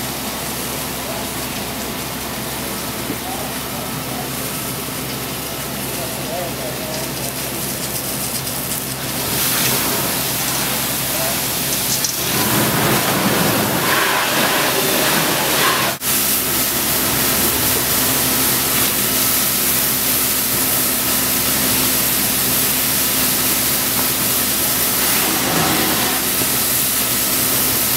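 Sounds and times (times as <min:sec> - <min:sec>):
fire hose spraying water: 0:00.0 - 0:27.9.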